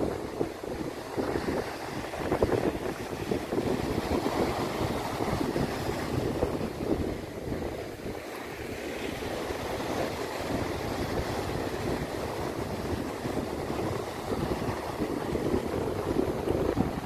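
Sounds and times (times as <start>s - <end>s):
heavy surf breaking on beach: 0.0s - 17.0s
wind buffeting microphone: 0.0s - 17.0s.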